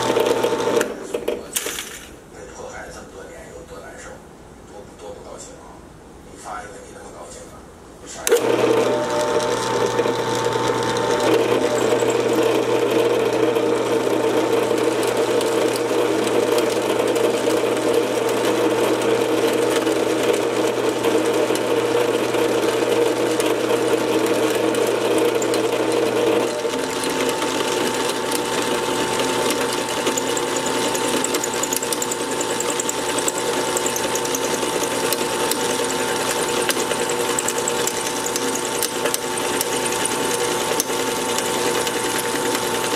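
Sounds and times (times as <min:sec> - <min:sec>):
drill press cutting metal: 0:00.0 - 0:02.0, 0:08.2 - 0:42.9.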